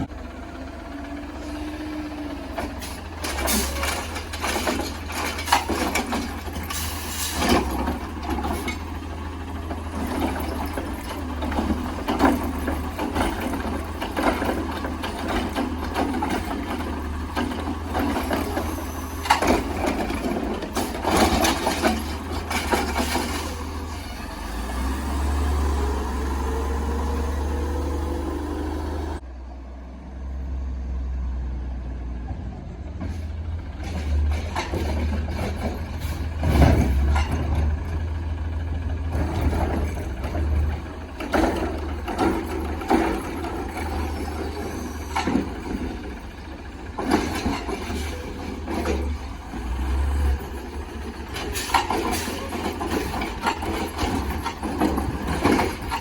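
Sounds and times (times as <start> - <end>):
garbage truck engine running: 0.0 - 29.3, 32.4 - 56.0
clanks and rattles: 2.4 - 24.8, 33.0 - 56.0.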